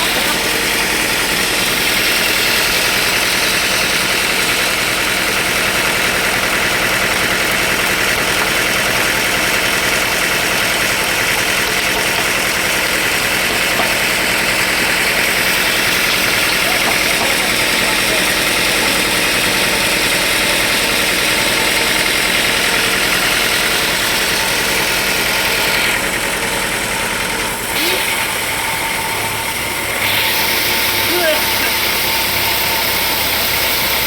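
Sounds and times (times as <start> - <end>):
sawmill machinery running: 0.0 - 34.0.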